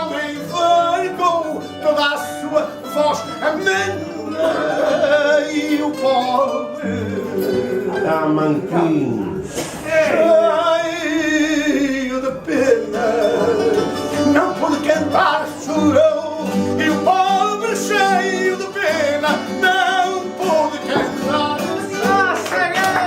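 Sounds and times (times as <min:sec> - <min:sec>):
man singing with vibrato: 0:00.0 - 0:23.0
plucked guitar accompaniment: 0:00.0 - 0:23.0.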